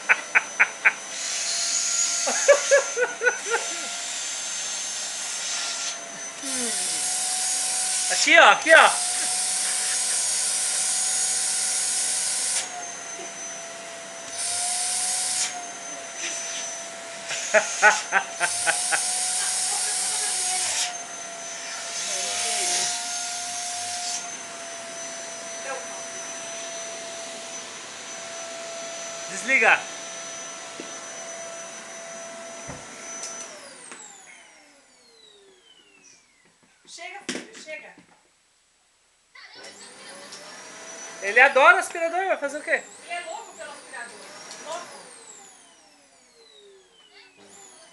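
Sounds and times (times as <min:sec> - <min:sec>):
vacuum cleaner air rush: 0:00.0 - 0:36.2, 0:39.6 - 0:46.8
vacuum cleaner motor whine: 0:00.0 - 0:37.2, 0:39.6 - 0:47.9.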